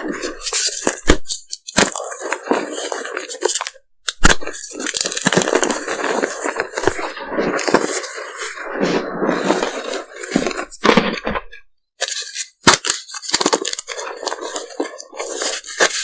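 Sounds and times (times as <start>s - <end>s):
chalk being crushed: 0.1s - 11.3s, 12.0s - 16.0s.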